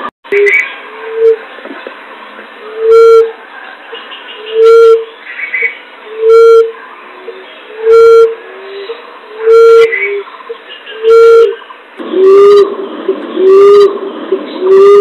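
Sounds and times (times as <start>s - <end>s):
distorted low dove hoot: 0.0s - 1.9s, 2.6s - 3.4s, 4.4s - 5.1s, 6.0s - 15.0s.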